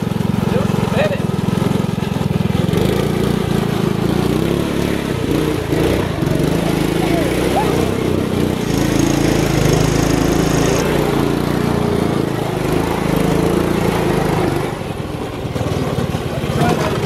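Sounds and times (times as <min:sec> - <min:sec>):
small gas engine running: 0:00.0 - 0:17.0.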